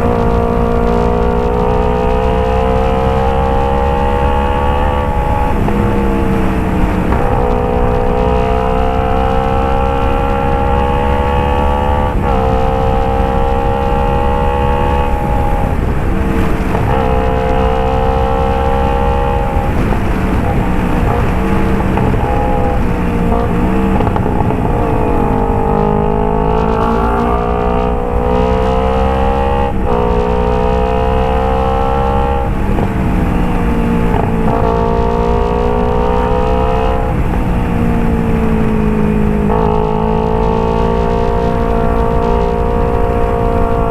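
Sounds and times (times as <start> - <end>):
motorcycle engine at high revs: 0.0 - 43.9.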